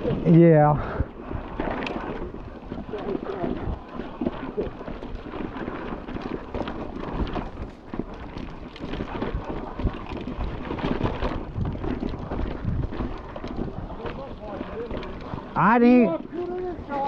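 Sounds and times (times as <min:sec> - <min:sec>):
mountain bike rattling on rocks: 0:00.0 - 0:17.0
wind buffeting microphone: 0:00.0 - 0:17.0.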